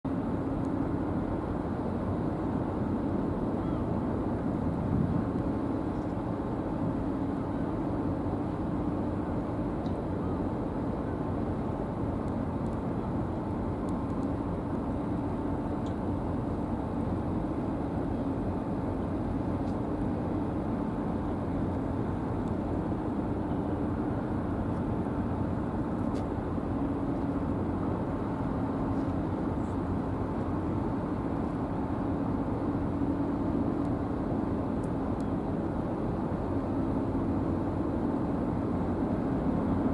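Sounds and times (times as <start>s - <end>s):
ferry engines droning: 0.1s - 39.9s.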